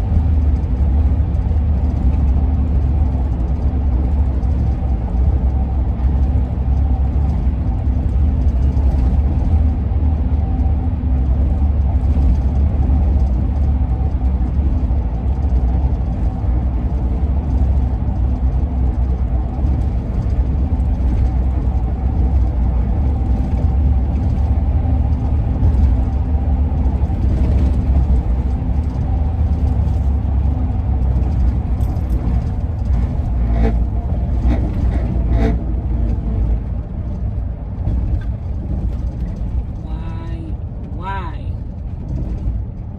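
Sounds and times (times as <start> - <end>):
van engine and road rumble: 0.0 - 42.9.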